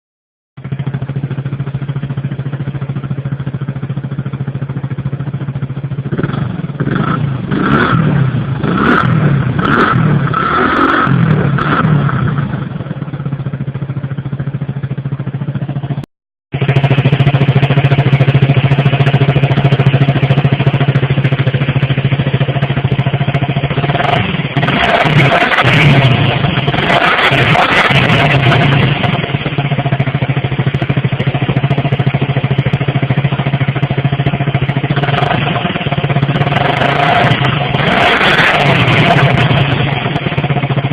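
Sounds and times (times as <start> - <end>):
vehicle exhaust idling: 0.6 - 10.4, 11.2 - 27.0, 27.9 - 40.9.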